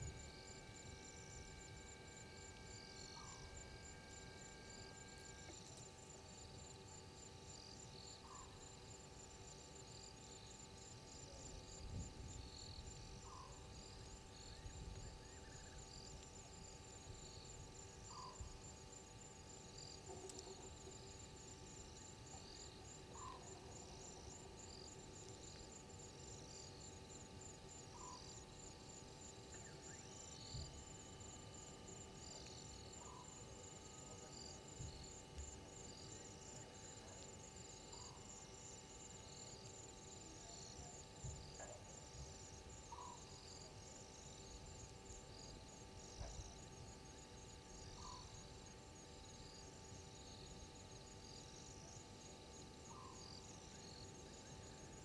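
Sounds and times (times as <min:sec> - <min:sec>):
insect chirps: 0:00.0 - 0:55.0
insects trilling: 0:00.0 - 0:55.0
low insect call: 0:00.0 - 0:55.0.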